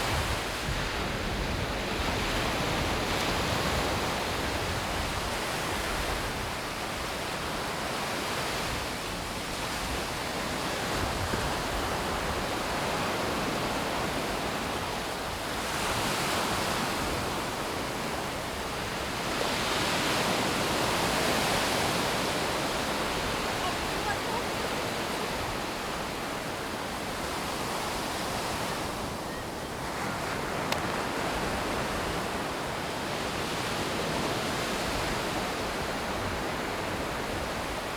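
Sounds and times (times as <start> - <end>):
sea surf washing onto beach: 0.0 - 37.9.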